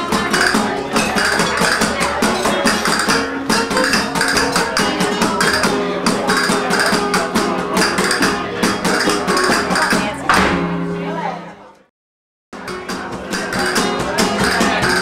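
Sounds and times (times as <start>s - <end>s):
acoustic flamenco guitars: 0.0s - 11.8s, 12.6s - 15.0s
sharp percussive clicks: 0.1s - 10.0s, 12.6s - 15.0s.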